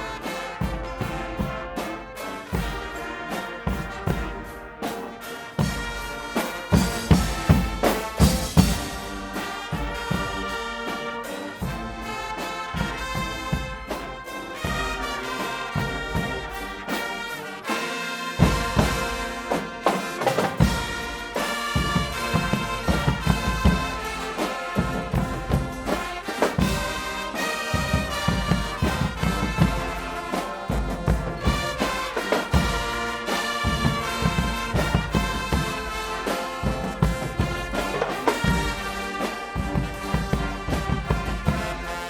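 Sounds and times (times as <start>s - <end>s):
brass playing: 0.0s - 42.0s
pounding drums: 0.0s - 42.0s.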